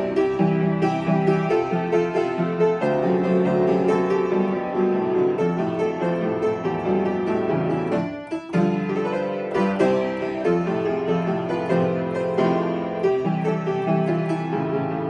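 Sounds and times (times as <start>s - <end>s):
upright piano playing: 0.0s - 15.0s.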